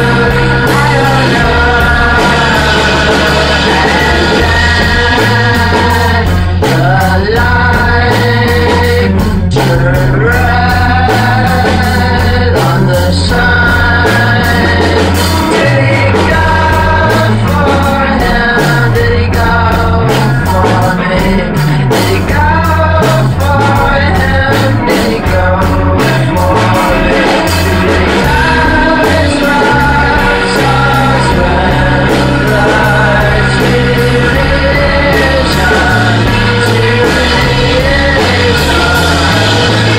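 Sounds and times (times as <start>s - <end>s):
bass guitar: 0.0s - 39.9s
drums: 0.0s - 39.9s
wavering sung vocal: 0.0s - 39.9s.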